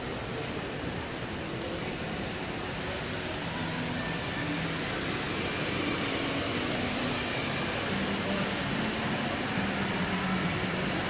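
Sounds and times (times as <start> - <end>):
ventilation: 0.0 - 11.0.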